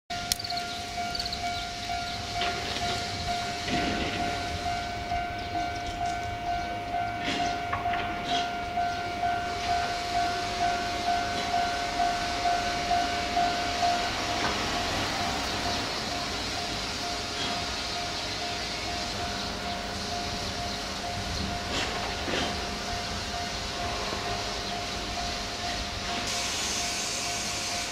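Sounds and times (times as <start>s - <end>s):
level crossing alarm dinging: 0.1s - 27.9s.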